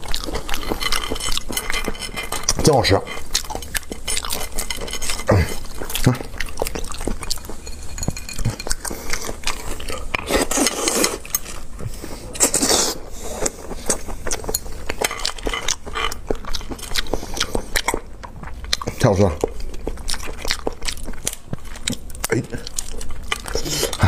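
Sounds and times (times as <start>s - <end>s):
biting and chewing: 0.0s - 24.0s.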